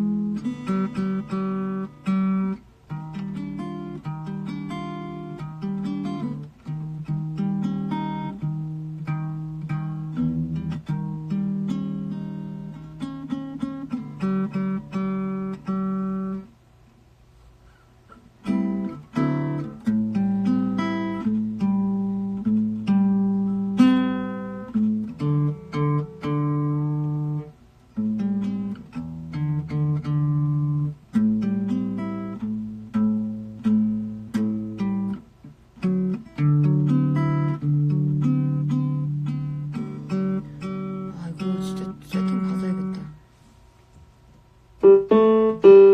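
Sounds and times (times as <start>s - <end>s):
acoustic guitar playing: 0.0s - 45.9s.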